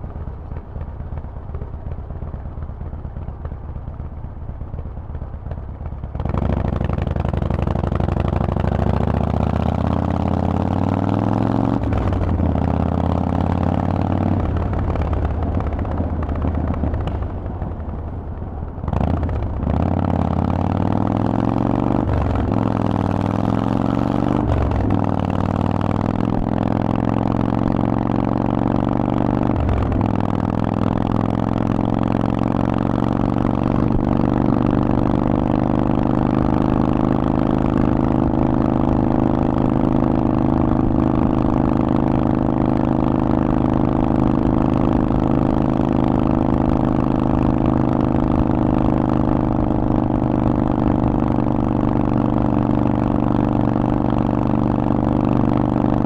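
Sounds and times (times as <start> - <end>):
motorcycle engine revving: 6.0 - 56.0.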